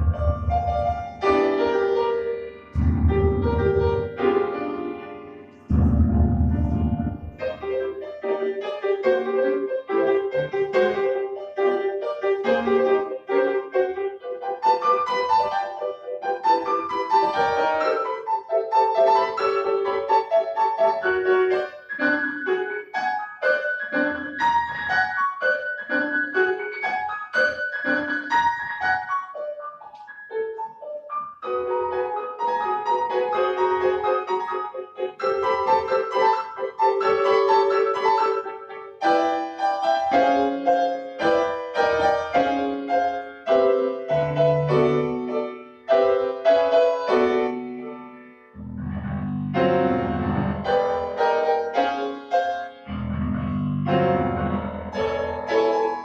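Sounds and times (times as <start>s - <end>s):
solo piano classical piece: 0.0s - 56.0s.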